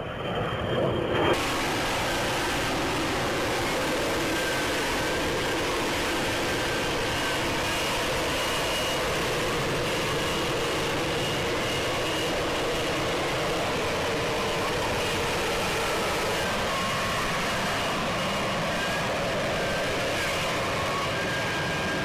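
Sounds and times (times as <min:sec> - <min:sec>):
faint whine: 0:00.0 - 0:22.0
jet engine running: 0:00.0 - 0:22.0.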